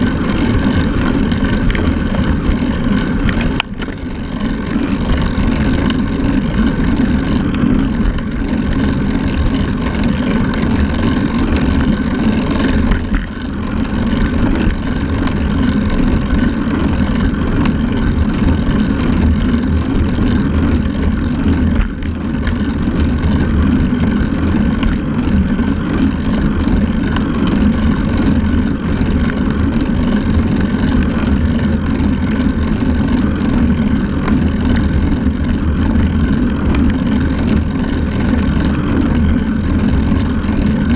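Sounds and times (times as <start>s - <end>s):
tyres humming on asphalt: 0.0s - 40.9s.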